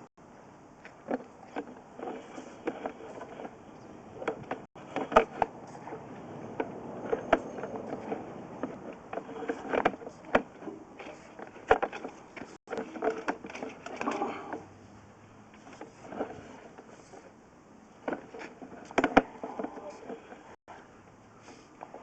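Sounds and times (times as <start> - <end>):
cable scraping through pipe: 1.0 - 20.6.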